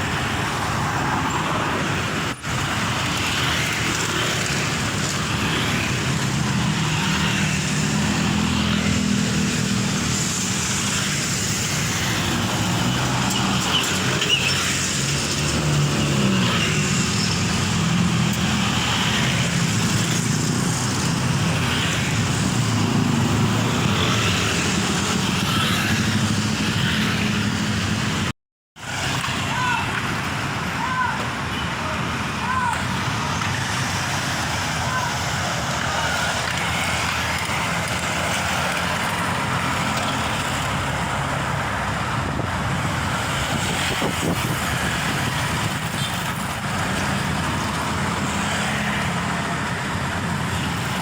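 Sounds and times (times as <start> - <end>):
passing traffic: 0.0 - 51.0.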